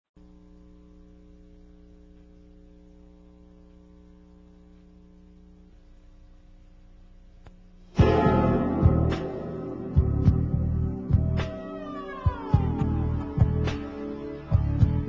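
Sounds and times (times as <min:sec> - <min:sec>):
faint electrical mains hum: 0:00.2 - 0:15.0.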